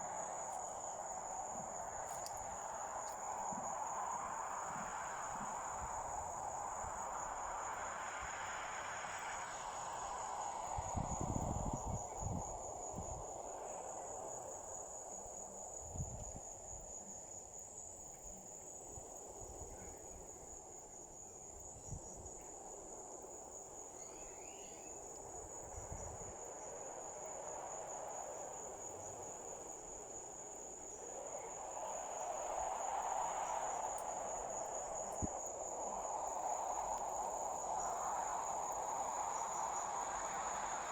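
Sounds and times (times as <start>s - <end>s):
crickets trilling: 0.0s - 40.9s
soft rushing hiss: 0.0s - 40.9s.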